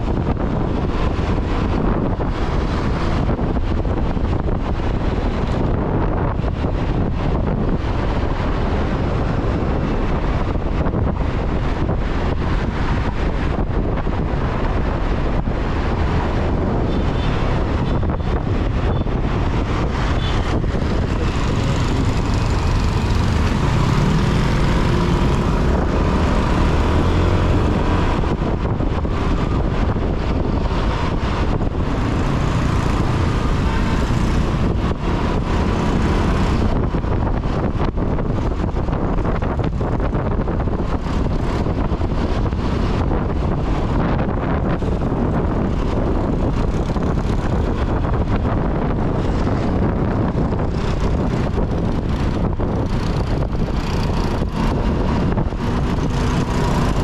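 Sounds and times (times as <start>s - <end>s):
road traffic: 0.0s - 57.0s
wind on microphone: 0.0s - 57.0s.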